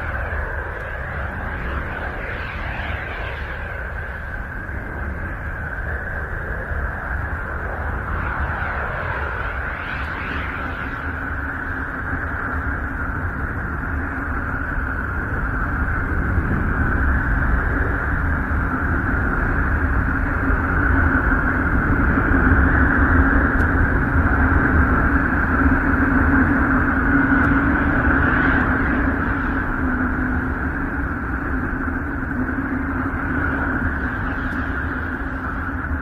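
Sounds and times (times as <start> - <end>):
low rumbling drone with hum: 0.0 - 36.0.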